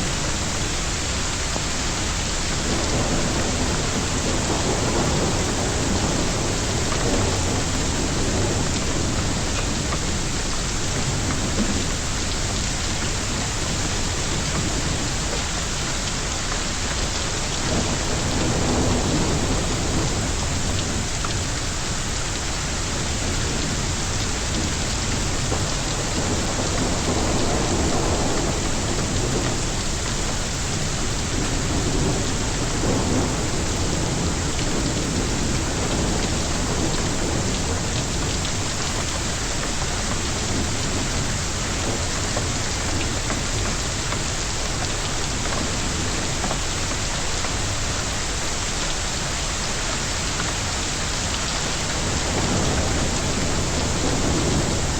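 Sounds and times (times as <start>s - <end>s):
heavy rain and hail pelting: 0.0s - 54.9s.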